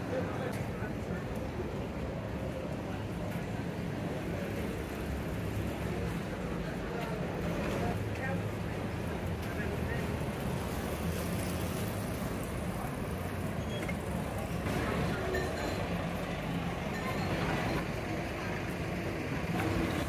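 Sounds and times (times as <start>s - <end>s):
traffic engines rumbling: 0.0s - 20.0s.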